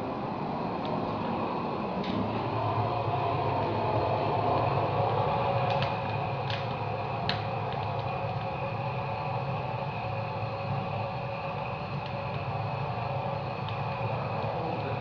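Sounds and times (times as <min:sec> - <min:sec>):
gas burner flame: 0:00.0 - 0:15.0
sharp crackles of charring wood: 0:00.3 - 0:15.0.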